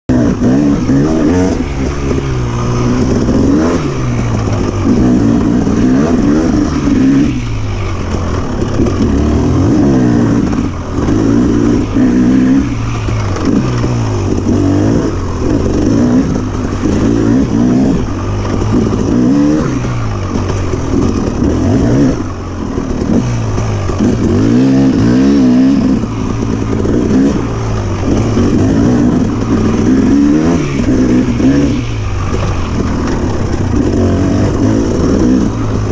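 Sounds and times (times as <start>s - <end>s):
dirt bike engine revving: 0.1s - 35.9s.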